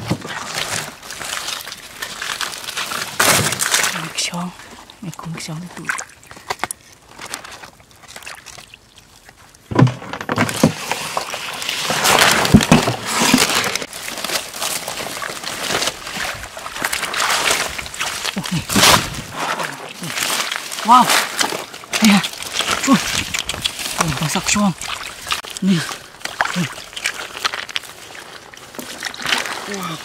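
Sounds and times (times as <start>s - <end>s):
hands squelching in wet mud: 0.0s - 9.7s, 10.6s - 30.0s
rustling of grass and stems: 0.0s - 30.0s.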